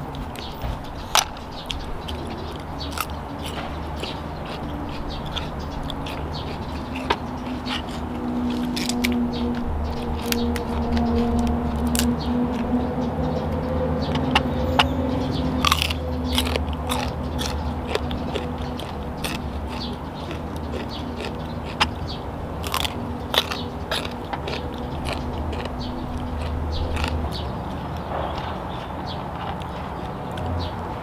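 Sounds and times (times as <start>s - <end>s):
crunchy biting and chewing: 0.0s - 31.0s.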